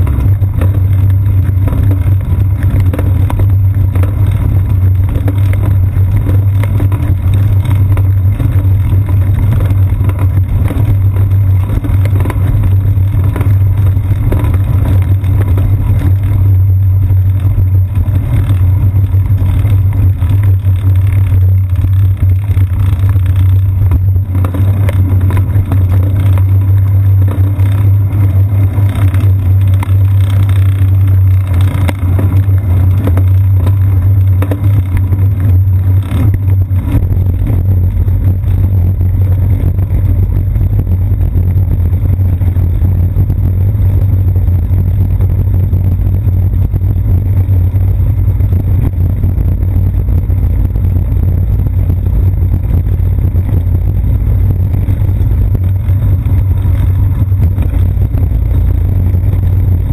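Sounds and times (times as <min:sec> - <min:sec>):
road vibration rumble: 0:00.0 - 0:59.9
tyres on brick pavement: 0:00.0 - 0:59.9
wind: 0:00.0 - 0:59.9.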